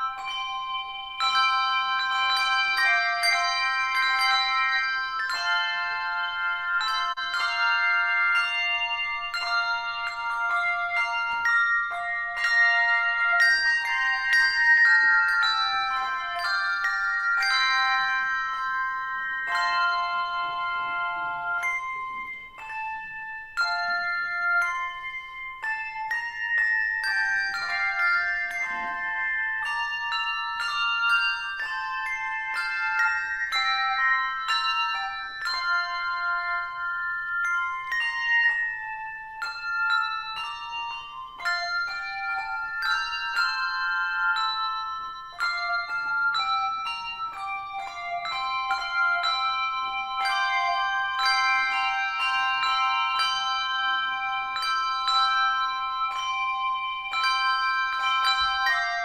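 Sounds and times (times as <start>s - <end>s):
handbell ensemble playing: 0.0s - 59.0s.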